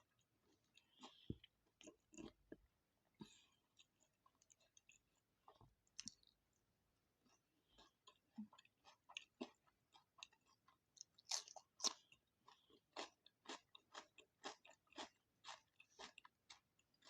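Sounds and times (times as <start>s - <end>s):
person chewing crunchy food: 0.1s - 2.6s, 3.2s - 6.4s, 7.2s - 17.0s.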